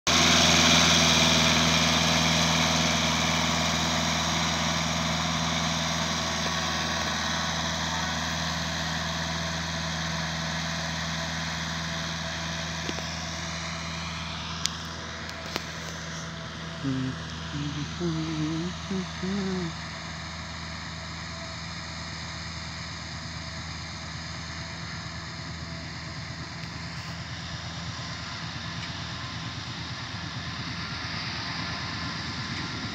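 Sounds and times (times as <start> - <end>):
tractor diesel engine running: 0.1 - 32.9.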